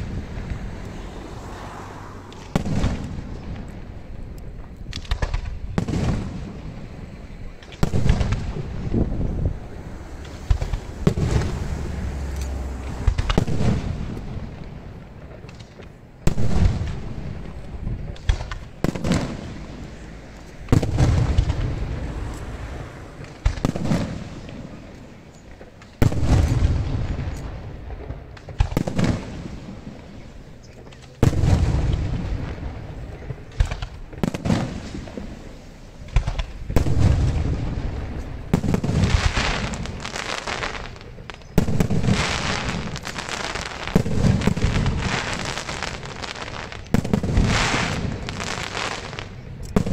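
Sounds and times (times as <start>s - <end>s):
crackling firework stars: 0.0s - 49.9s
firework shells booming: 2.3s - 12.1s, 12.7s - 22.3s, 23.1s - 49.9s.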